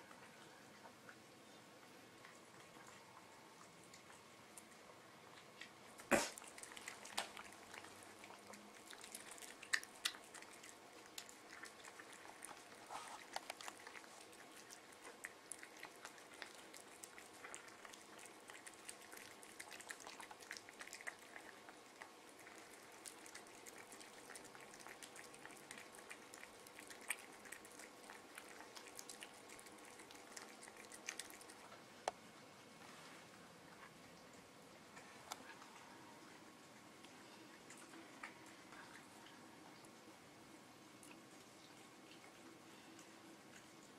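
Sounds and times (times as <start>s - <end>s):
cats licking and chewing: 0.0s - 43.9s.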